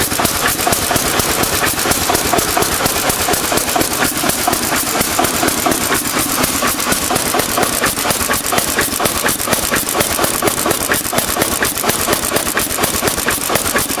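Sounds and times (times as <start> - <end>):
diesel engine knocking steadily: 0.0 - 14.0.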